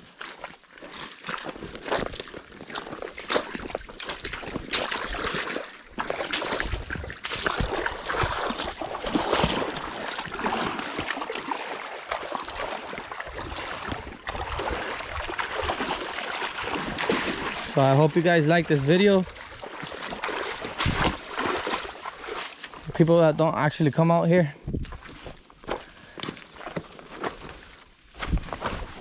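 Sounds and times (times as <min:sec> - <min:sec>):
footsteps wading through water: 0:00.0 - 0:24.0, 0:24.6 - 0:29.0.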